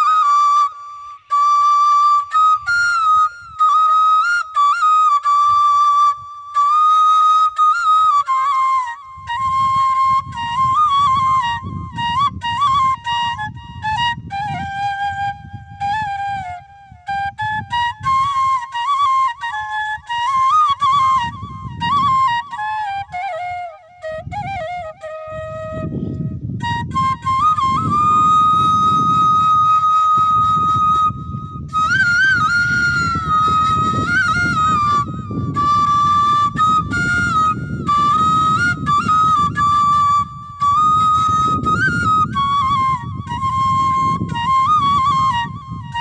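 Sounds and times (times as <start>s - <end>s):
bamboo flute melody: 0.0s - 46.0s.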